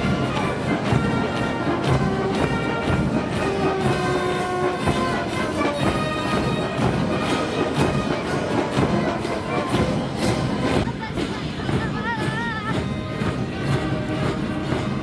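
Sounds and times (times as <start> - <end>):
drum beat: 0.0 - 15.0
military brass band march: 0.0 - 15.0.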